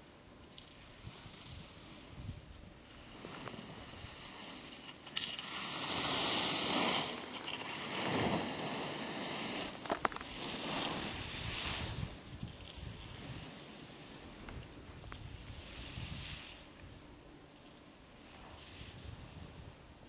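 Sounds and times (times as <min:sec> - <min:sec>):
skis swishing on snow: 0:01.0 - 0:17.0, 0:18.2 - 0:19.9.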